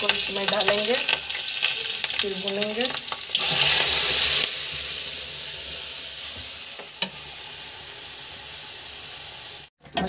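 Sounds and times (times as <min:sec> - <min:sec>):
paste sizzling in hot oil: 0:00.0 - 0:09.7.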